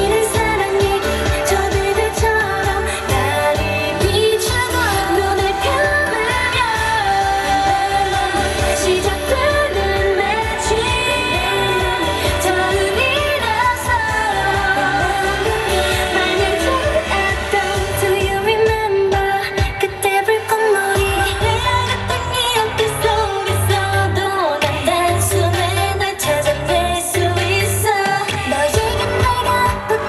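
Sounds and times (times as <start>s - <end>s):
pop song with female group vocals: 0.0s - 30.0s.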